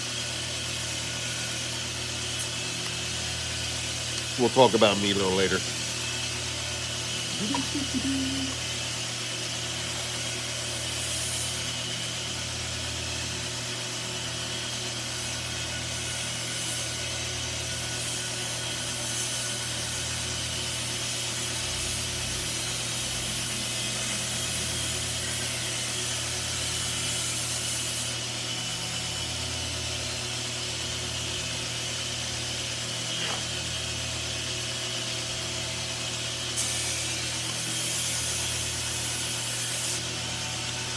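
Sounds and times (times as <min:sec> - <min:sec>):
small power tool whirring: 0:05.1 - 0:40.9.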